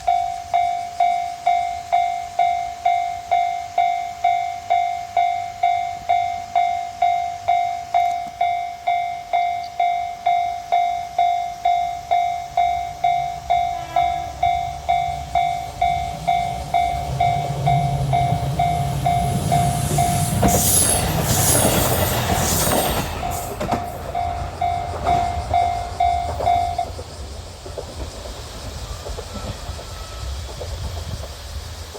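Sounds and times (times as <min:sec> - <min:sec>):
level-crossing warning bell ringing: 0:00.0 - 0:27.2
diesel train passing: 0:00.0 - 0:31.9.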